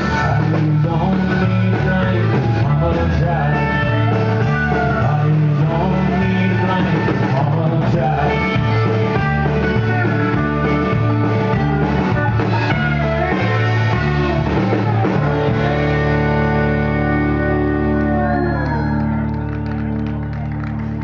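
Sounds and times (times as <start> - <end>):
electric guitar: 0.0 - 21.0
live rock band playing: 0.0 - 21.0.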